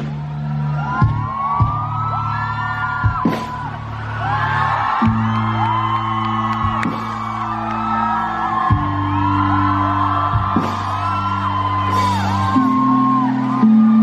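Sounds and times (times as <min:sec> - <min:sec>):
people singing and whooping: 0:00.0 - 0:14.0.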